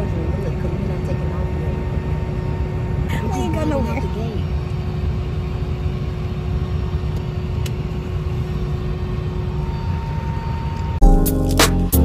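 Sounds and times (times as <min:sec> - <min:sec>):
engines and airflow rumble: 0:00.0 - 0:11.0
faint steady hums: 0:00.0 - 0:11.0.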